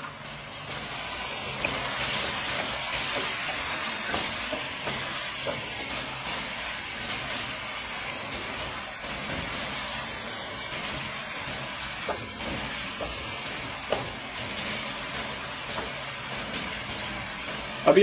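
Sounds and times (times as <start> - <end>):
chicken sizzling in a wok: 0.0 - 18.0.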